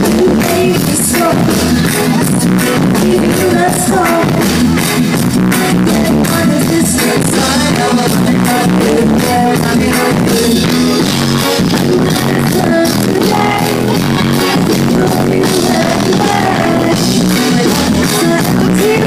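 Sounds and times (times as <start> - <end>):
woman singing: 0.0 - 4.6, 5.7 - 19.0
drums: 0.0 - 19.0
electric guitar: 0.0 - 19.0.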